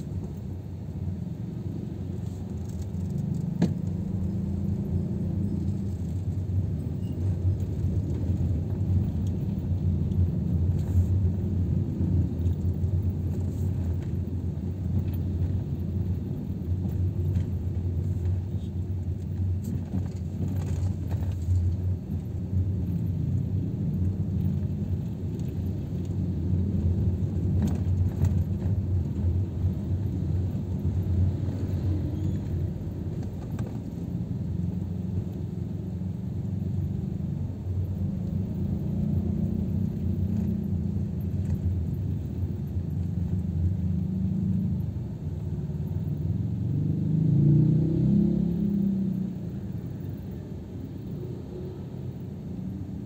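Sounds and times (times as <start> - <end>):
car engine and tyres rumble: 0.0 - 53.0.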